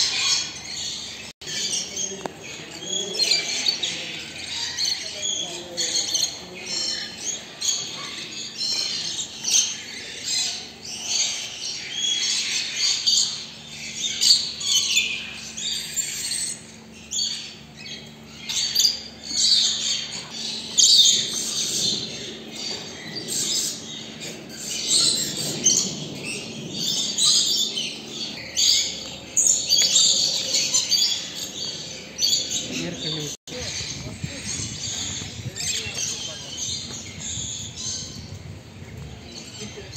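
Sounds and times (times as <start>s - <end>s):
parrots chattering and squawking: 0.0s - 38.3s.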